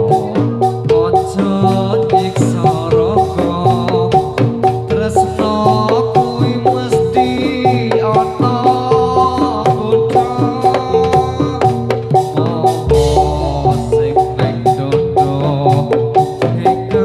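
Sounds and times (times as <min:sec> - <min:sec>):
hand drum beats: 0:00.0 - 0:17.0
metallophone notes: 0:00.0 - 0:17.0.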